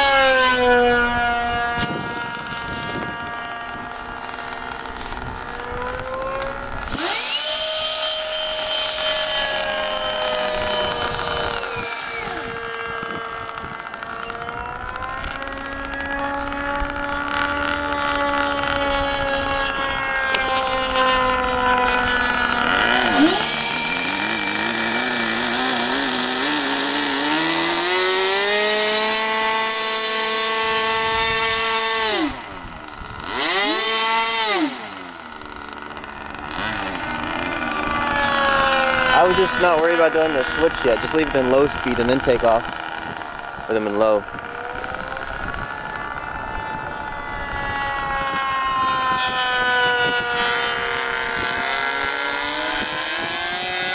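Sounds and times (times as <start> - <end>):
electric ducted fans whining: 0.0 - 53.9
small model airplane engine: 0.0 - 53.9.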